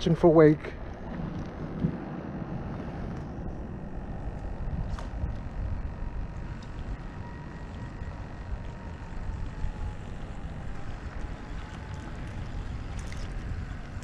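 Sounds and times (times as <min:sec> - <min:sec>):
distant boat motor whine: 0:00.0 - 0:14.0
wind rumbling on microphone: 0:00.0 - 0:14.0.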